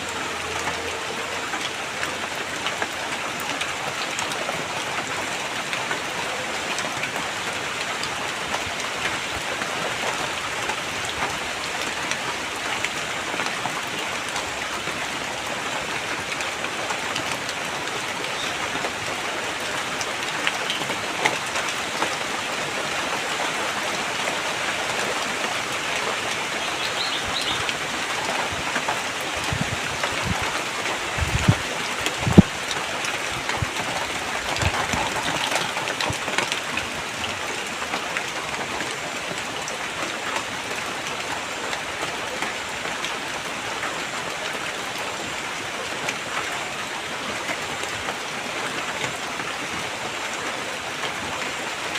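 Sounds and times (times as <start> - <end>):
rain pattering: 0.0 - 51.9.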